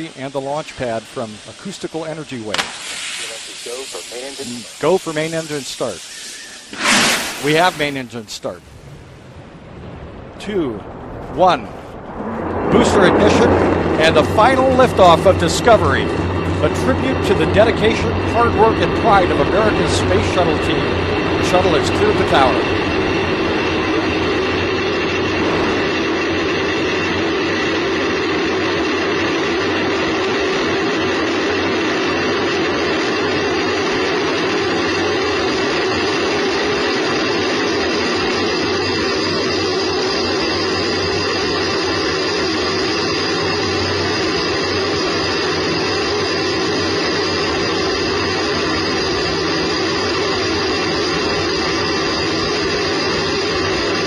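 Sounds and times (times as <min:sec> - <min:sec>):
rocket booster roar: 0:00.0 - 0:54.0.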